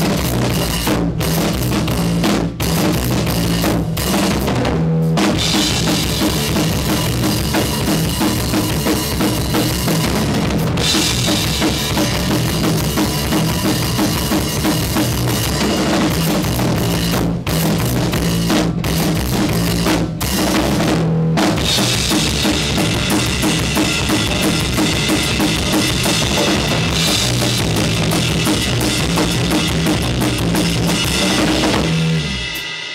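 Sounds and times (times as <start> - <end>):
punk rock drums and bass: 0.0 - 32.9.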